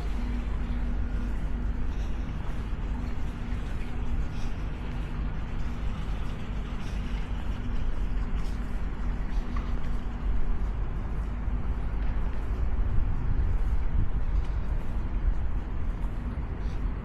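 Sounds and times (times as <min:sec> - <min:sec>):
engine rumble: 0:00.0 - 0:17.0
faint even hum: 0:00.0 - 0:17.0
outdoor noise: 0:00.0 - 0:17.0.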